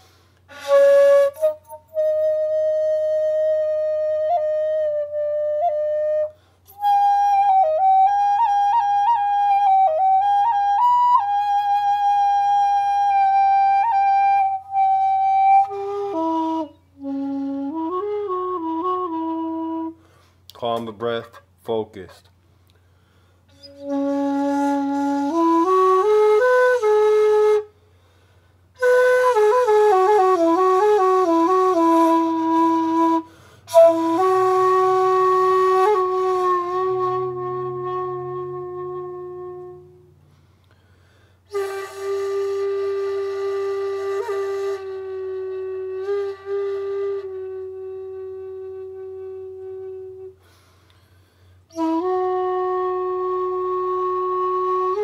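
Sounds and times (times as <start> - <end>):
bamboo flute playing: 0.0 - 20.2, 23.4 - 55.0.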